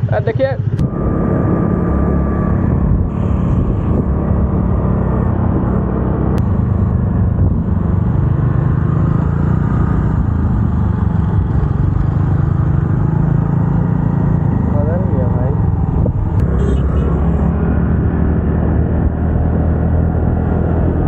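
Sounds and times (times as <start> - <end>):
motorcycle engine running: 0.0 - 21.0
wind rumble on microphone: 0.6 - 21.0.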